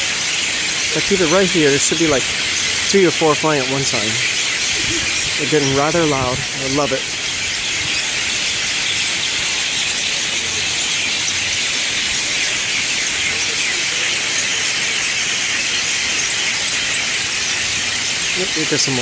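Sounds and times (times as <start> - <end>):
flock of birds chattering: 0.0 - 19.0.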